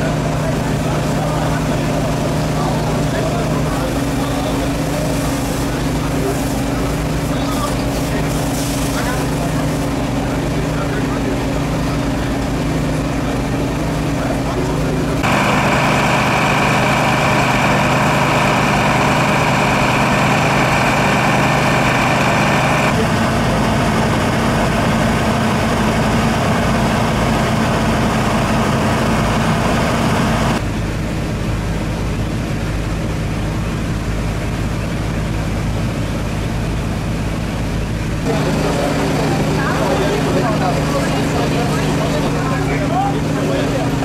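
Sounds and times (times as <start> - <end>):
diesel engines driving pumps: 0.0 - 44.0.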